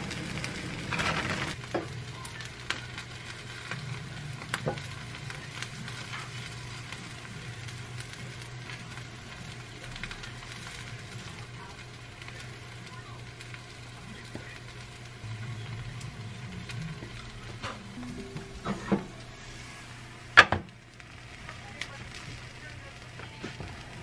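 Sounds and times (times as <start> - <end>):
sharp crackles: 0.0 - 18.4, 20.7 - 24.0
rice sizzling in a hot pot: 0.0 - 24.0.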